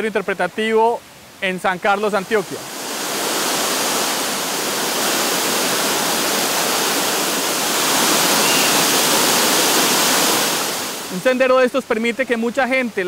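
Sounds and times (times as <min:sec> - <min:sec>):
waterfall rushing: 0:00.1 - 0:13.0.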